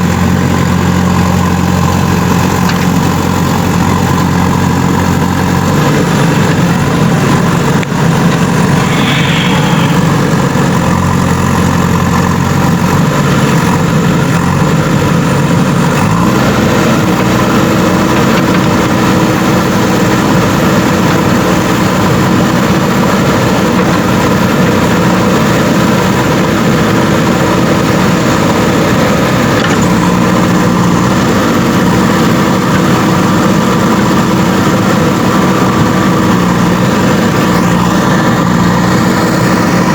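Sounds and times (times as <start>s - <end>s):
diesel engine running and revving: 0.0s - 39.9s.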